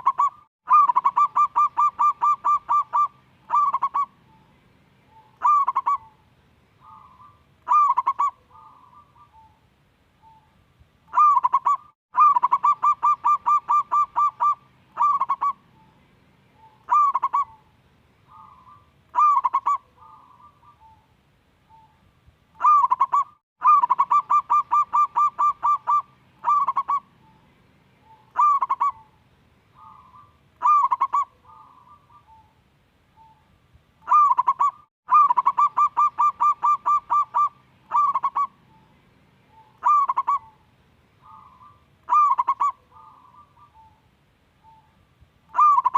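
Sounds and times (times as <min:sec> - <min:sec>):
dove cooing: 0:00.0 - 0:04.4, 0:05.1 - 0:06.2, 0:06.8 - 0:09.6, 0:11.1 - 0:16.0, 0:16.6 - 0:17.7, 0:18.3 - 0:21.1, 0:22.6 - 0:27.4, 0:28.0 - 0:32.6, 0:34.0 - 0:38.9, 0:39.5 - 0:44.0, 0:44.6 - 0:45.9.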